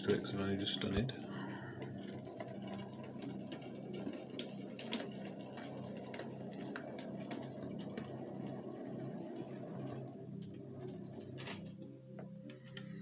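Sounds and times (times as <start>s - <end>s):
model train motor hum: 1.8s - 13.0s
wheels clicking over rail joints: 1.9s - 13.0s.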